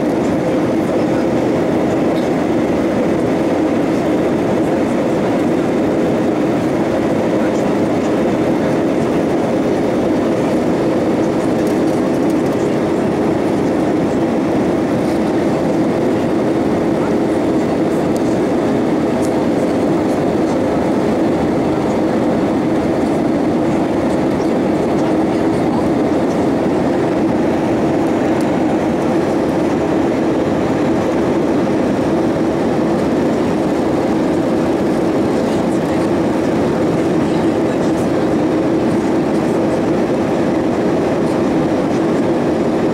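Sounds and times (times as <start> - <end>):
jet engine hum: 0.0 - 42.9.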